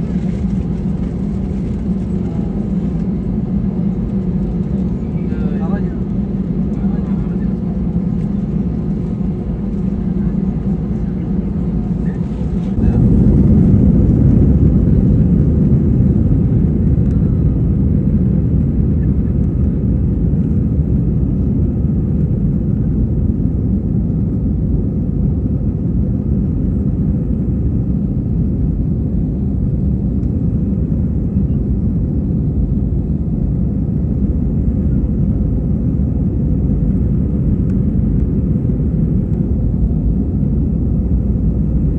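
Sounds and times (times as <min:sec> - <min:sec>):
aircraft cabin engine rumble: 0:00.0 - 0:41.9.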